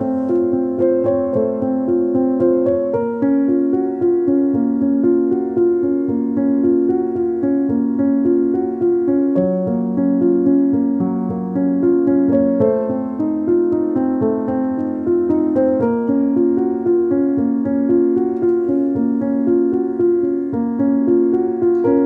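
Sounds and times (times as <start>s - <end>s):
background piano music: 0.0s - 22.0s.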